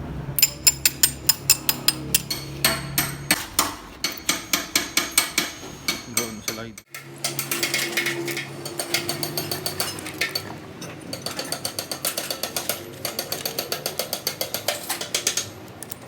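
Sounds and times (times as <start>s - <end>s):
rapid metallic clicking: 0.4s - 10.5s, 11.1s - 16.0s.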